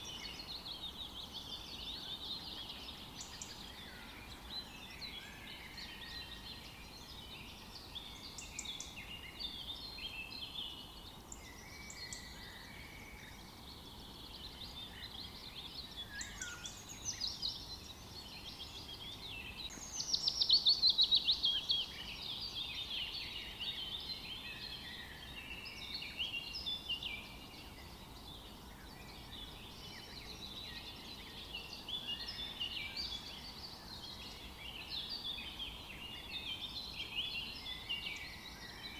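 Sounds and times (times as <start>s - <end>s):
faint background hiss: 0.0s - 38.9s
small songbirds singing: 0.0s - 38.9s.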